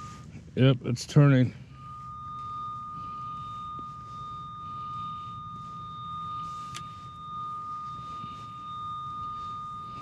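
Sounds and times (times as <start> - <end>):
steady electronic beep tone: 0.0 - 10.0.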